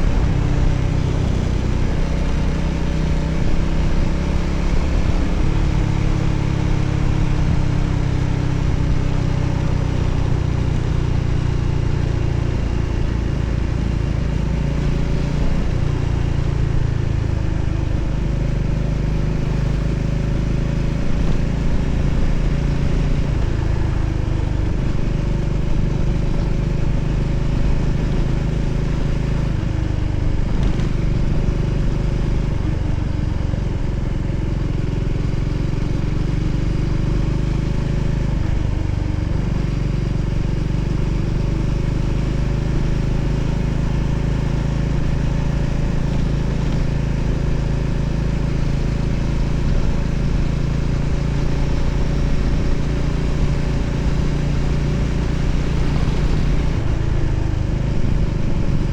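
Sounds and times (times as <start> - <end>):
motorcycle engine running: 0.0 - 58.9
road and wind noise: 0.0 - 58.9.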